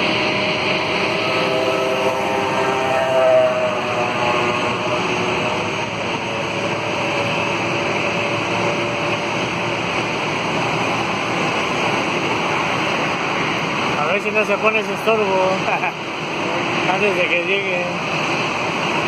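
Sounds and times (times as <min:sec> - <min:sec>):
jet engines whooshing: 0:00.0 - 0:19.0.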